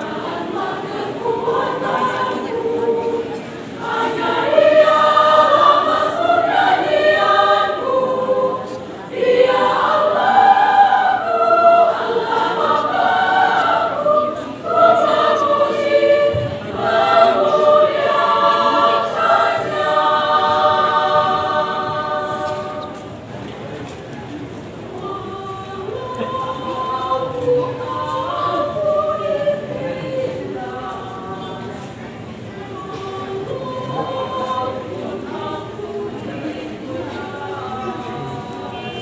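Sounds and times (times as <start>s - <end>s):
women's choir singing: 0.0s - 23.8s, 24.6s - 39.0s.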